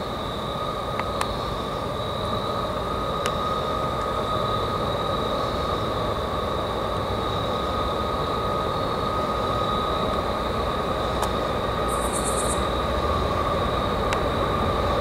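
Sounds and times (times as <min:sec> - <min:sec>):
distant freight train rumble: 0:00.0 - 0:15.0.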